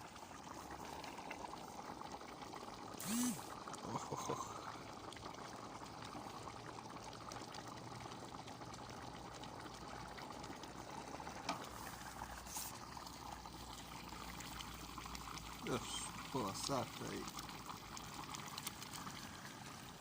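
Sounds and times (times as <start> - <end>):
pot bubbling over fire: 0.0 - 20.0.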